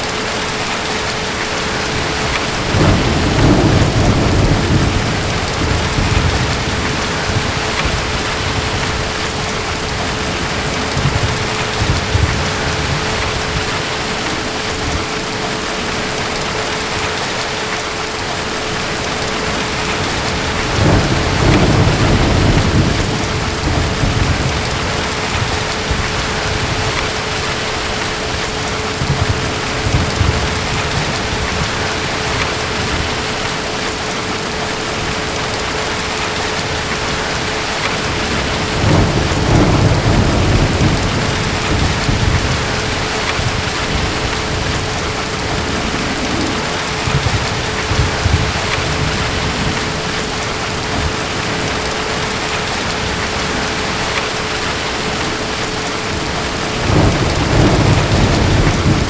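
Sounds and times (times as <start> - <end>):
heavy rain: 0.0 - 59.0
distant thunder rumbling: 1.0 - 17.5, 18.3 - 59.0.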